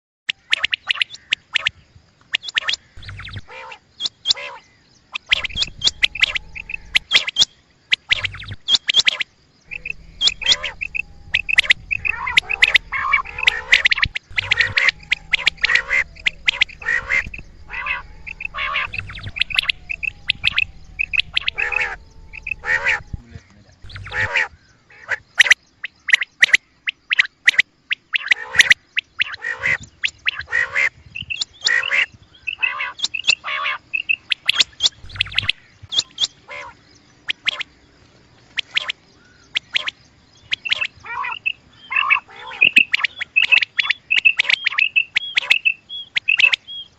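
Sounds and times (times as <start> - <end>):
quail calling: 2.4 - 25.6, 28.1 - 37.7, 38.6 - 46.8.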